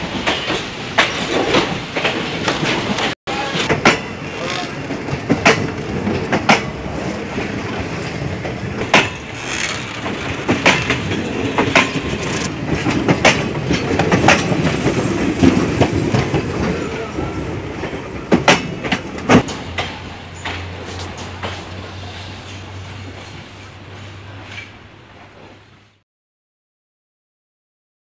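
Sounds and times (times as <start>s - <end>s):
train wheels clacking on rail joints: 0.0s - 25.6s
train rolling rumble: 0.0s - 26.0s.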